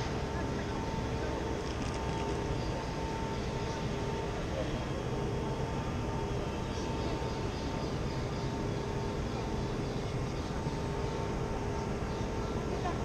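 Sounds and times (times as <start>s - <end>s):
constant machine hum: 0.0s - 13.0s
low city rumble: 0.0s - 13.0s.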